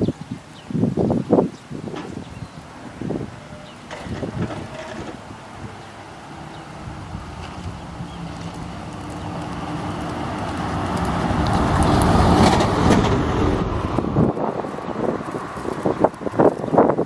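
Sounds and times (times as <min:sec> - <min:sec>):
bus passing: 0:02.7 - 0:17.0.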